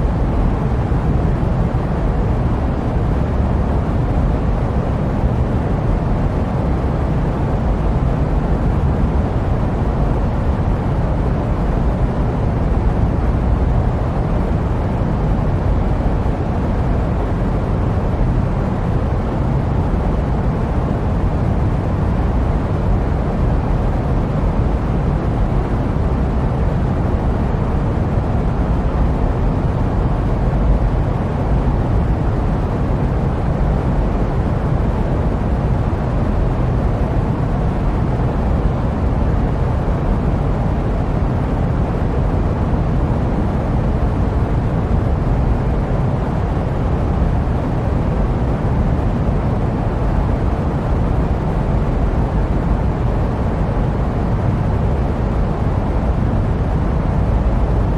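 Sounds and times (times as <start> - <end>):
jet airplane rumble: 0.0 - 57.9.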